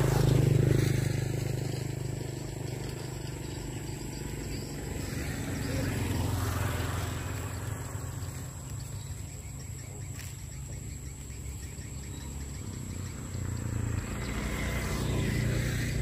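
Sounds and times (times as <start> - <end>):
faint insects chirping: 0.0 - 16.0.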